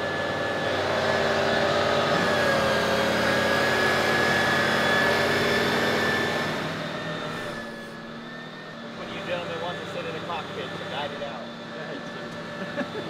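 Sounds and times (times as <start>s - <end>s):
hydraulic whine: 0.0s - 13.0s
truck engine drone: 0.0s - 13.0s.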